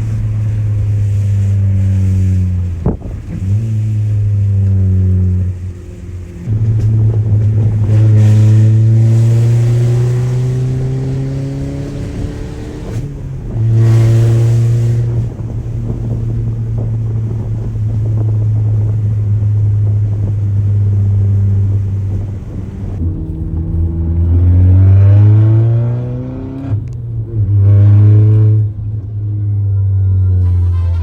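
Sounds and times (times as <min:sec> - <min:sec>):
car exhaust droning: 0:00.0 - 0:31.0.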